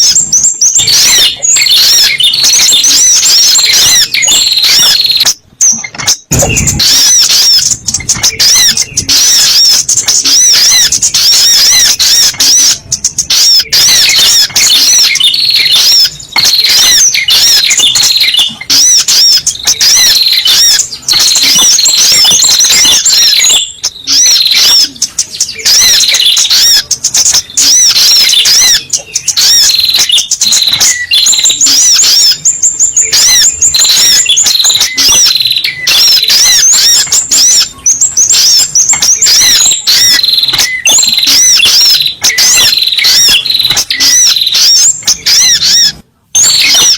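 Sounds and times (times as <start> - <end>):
bird chirping rapidly: 0.0 - 46.9.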